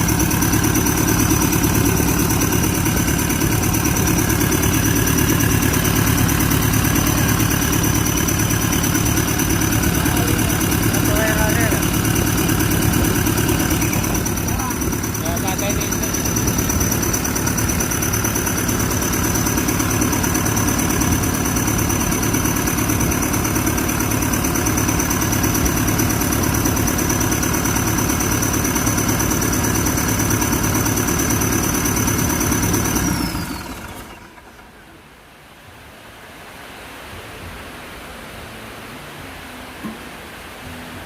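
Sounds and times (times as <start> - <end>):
diesel excavator engine running: 0.0 - 35.1.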